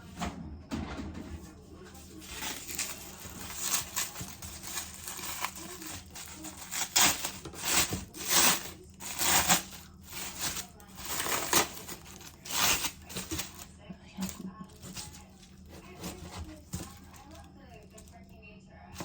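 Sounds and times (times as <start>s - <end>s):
rustling scraping handling noises: 1.1s - 18.2s.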